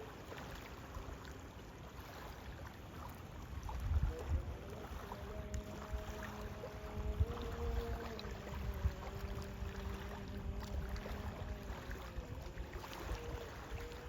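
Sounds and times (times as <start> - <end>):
surf: 0.0 - 14.0
wind on microphone: 2.0 - 14.0.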